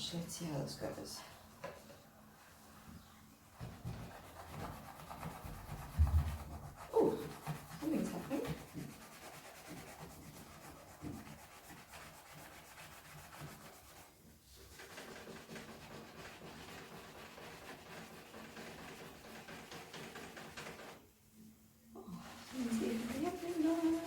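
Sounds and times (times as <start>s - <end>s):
sponge scrubbing a door handle: 3.5s - 21.0s, 22.2s - 24.0s.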